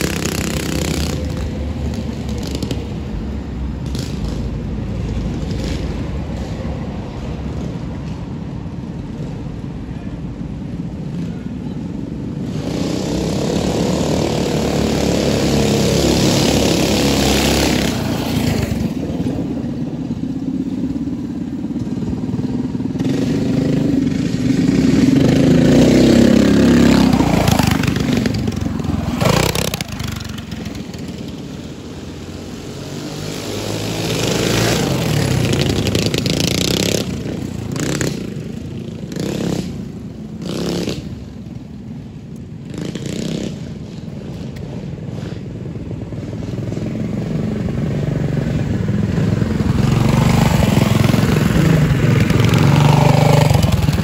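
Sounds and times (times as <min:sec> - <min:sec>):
mini bike engines revving: 0:00.0 - 0:54.0.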